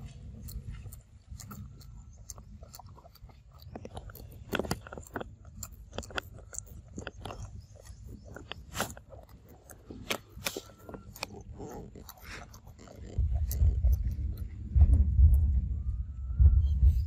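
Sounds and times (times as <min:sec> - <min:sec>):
monkey chewing carton: 0:00.0 - 0:15.4.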